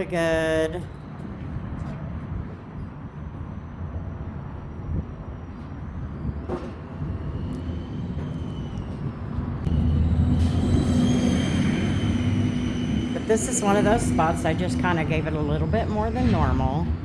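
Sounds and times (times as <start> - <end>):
low rumble of vehicle noise: 0.0 - 17.0
faint high whine: 2.8 - 17.0.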